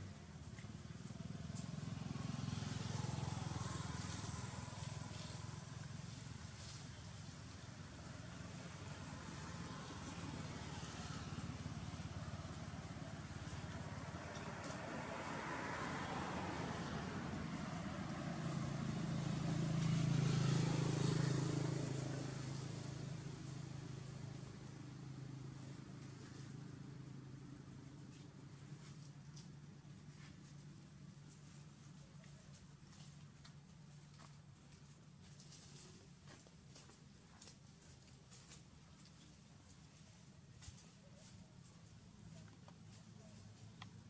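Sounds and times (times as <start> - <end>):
motorbike passing: 0.0 - 44.0.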